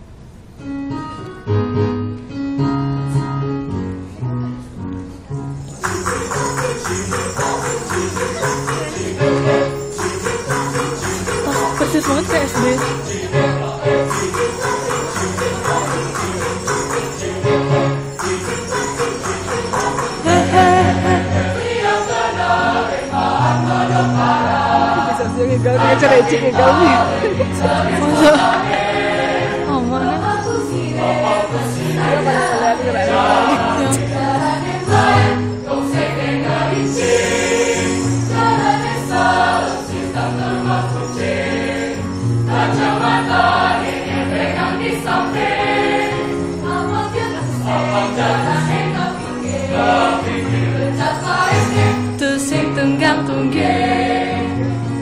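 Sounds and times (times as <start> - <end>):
mixed choir singing: 5.8 - 55.0.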